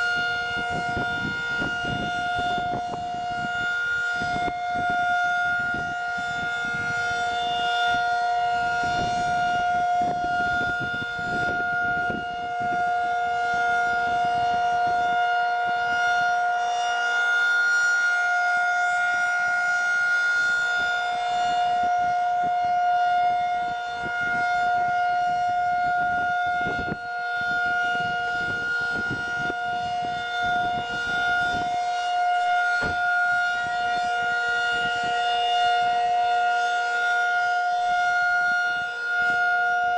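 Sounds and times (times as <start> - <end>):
steady siren tone: 0.0 - 39.9.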